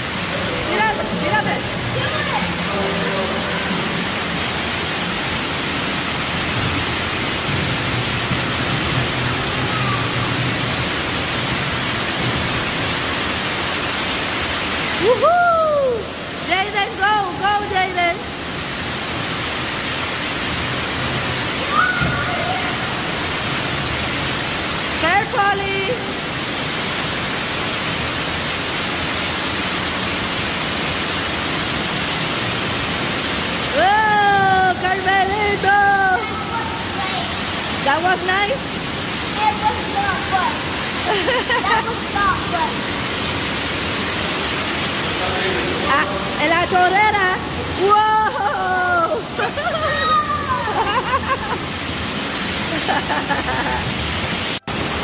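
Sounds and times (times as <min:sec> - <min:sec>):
water jets spraying: 0:00.0 - 0:55.0.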